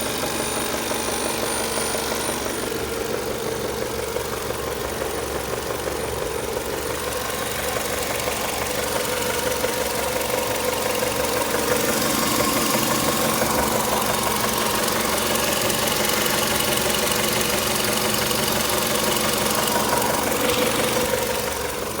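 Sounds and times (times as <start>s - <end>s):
engine knocking noise: 0.0s - 22.0s
engine running: 0.0s - 22.0s.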